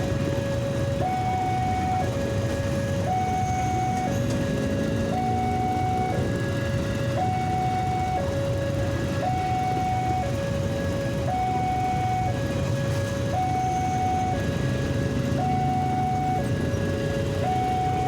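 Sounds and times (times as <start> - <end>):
two-tone crossing alarm: 0.0 - 18.0.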